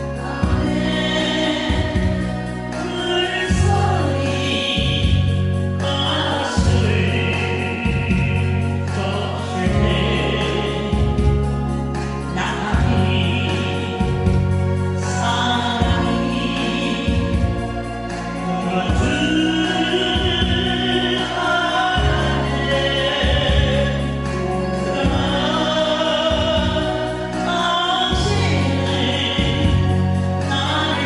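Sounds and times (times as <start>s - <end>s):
instrumental backing track: 0.0s - 31.0s.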